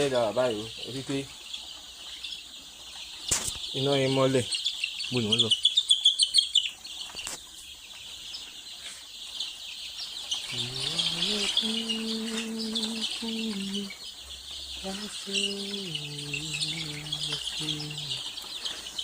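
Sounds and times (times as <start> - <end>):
chicks cheeping and chirping: 0.0 - 19.0.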